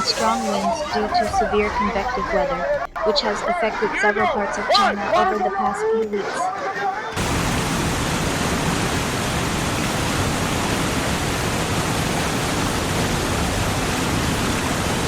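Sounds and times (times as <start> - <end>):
floodwater rushing: 0.0 - 5.3, 6.2 - 15.0.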